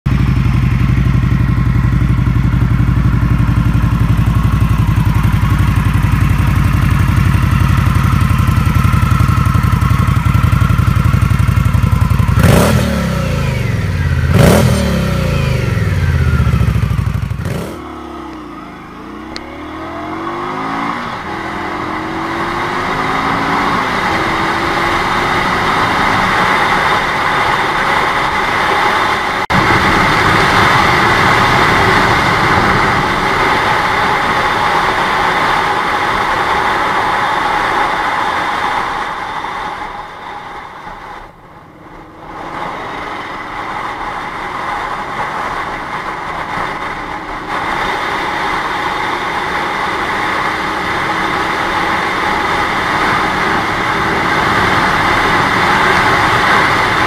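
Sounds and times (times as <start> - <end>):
motorcycle engine idling and revving: 0.0 - 57.0
motorcycle accelerating on highway: 0.1 - 57.0.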